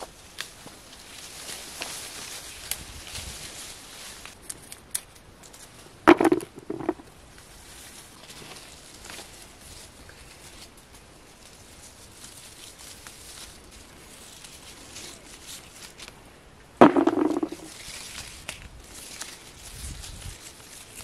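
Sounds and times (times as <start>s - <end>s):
leaves and twigs rustling: 0.0s - 21.0s.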